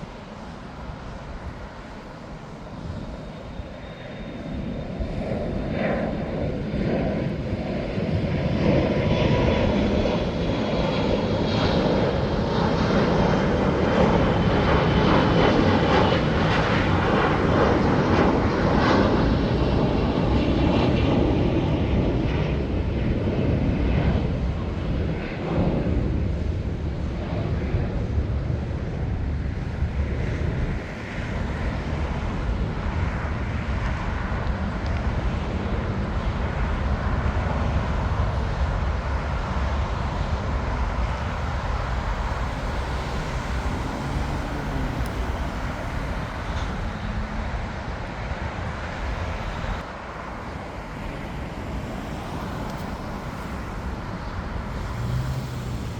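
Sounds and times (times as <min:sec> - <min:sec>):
jet airliner engines: 0:00.0 - 0:55.9.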